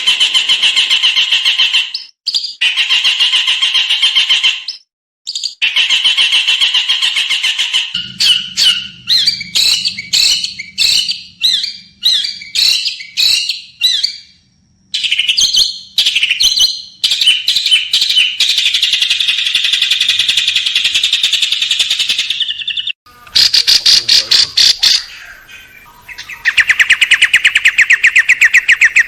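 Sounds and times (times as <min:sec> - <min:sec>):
songbird calling sharp notes: 0:00.0 - 0:29.0.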